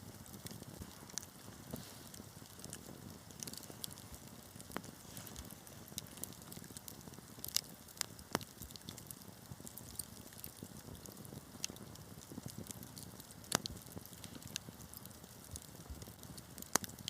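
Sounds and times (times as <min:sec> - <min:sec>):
fire crackling and popping: 0:00.0 - 0:17.0
low rush of flames: 0:00.0 - 0:17.0.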